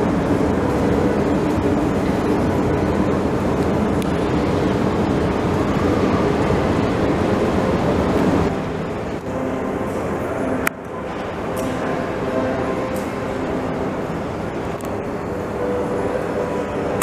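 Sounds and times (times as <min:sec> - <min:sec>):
echoing station hall rumble: 0:00.0 - 0:17.0
escalator running: 0:00.0 - 0:17.0.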